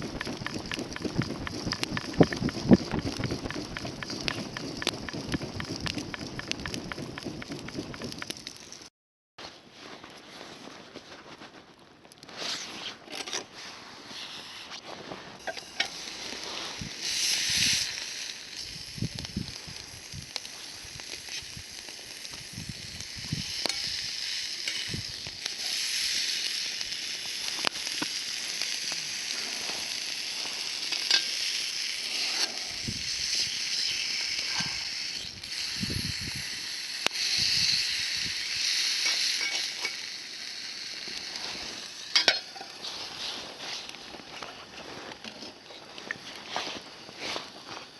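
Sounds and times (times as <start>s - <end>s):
fire crackles: 0.0s - 8.9s, 9.8s - 47.9s
meat sizzling over fire: 0.0s - 8.9s, 15.3s - 47.9s.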